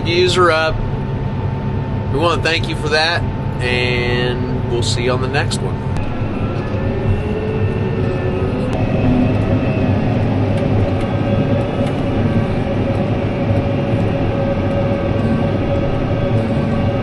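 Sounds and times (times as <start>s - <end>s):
diesel machinery droning: 0.0s - 17.0s
steady machine whine: 0.0s - 17.0s.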